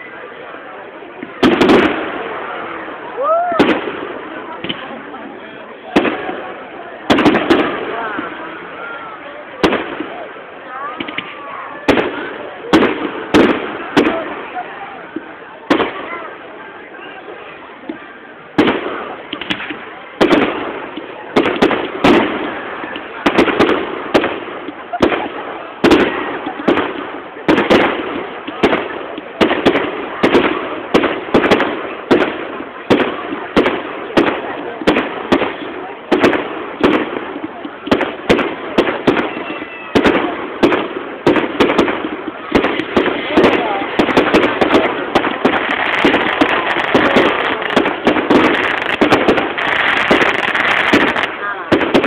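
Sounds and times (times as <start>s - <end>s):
fireworks exploding: 0.0s - 52.0s.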